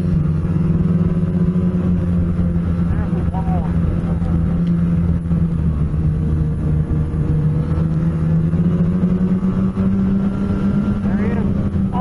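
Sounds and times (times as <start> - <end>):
snowmobile engine running: 0.0 - 12.0
snowmobile track rumble: 0.0 - 12.0
wind: 0.0 - 12.0.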